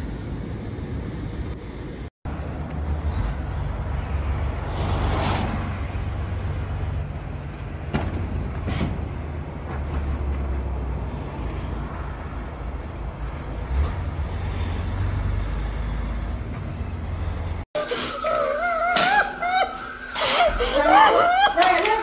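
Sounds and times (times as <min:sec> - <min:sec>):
road and engine drone: 0:00.0 - 0:22.0.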